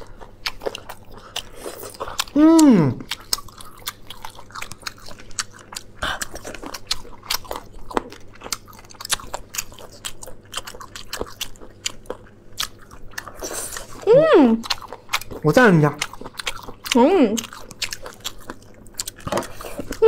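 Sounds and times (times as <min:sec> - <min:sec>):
wet crunchy chewing: 0:00.0 - 0:14.0, 0:14.6 - 0:20.0.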